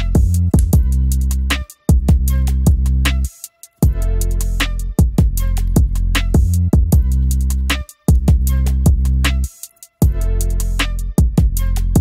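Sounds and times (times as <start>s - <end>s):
music with heavy bass and drums: 0.0s - 12.0s.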